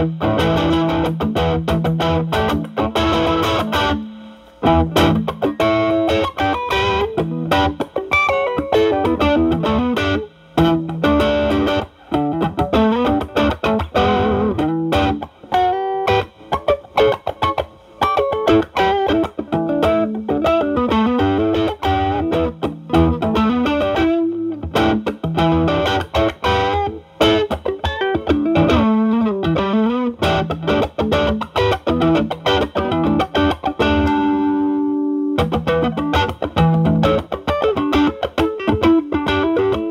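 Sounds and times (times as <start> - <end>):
overdriven electric guitar blues lead: 0.0 - 39.9.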